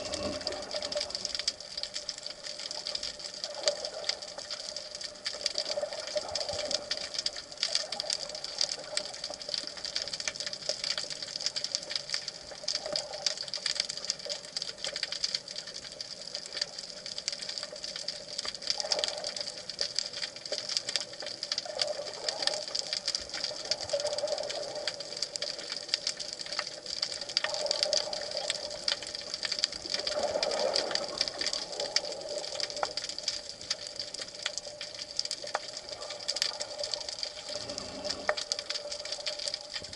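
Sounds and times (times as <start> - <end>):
low underwater hum: 0.0 - 39.9
underwater crackling and clicking: 0.0 - 39.9.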